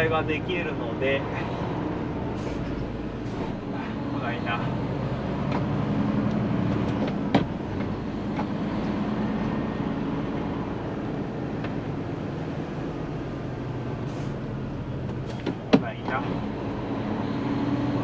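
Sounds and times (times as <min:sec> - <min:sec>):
road rumble: 0:00.0 - 0:18.0.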